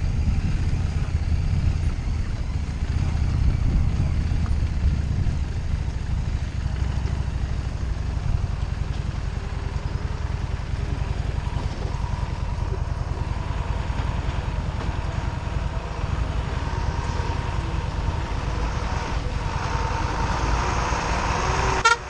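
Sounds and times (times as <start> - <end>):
motorcycle engine running: 0.0 - 22.0
oncoming truck: 0.0 - 22.0.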